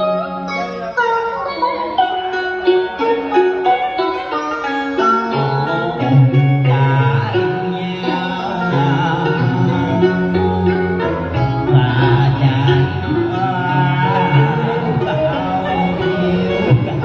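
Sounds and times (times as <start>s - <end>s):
instrumental song music: 0.0s - 17.0s.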